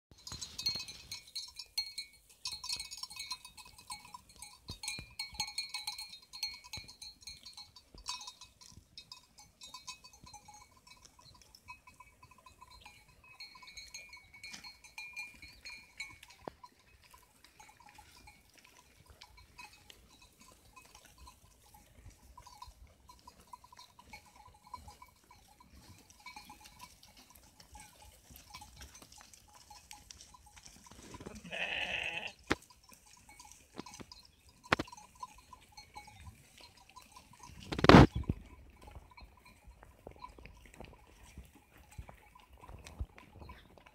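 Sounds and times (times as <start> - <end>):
sheep bells clinking: 0.1 - 43.9.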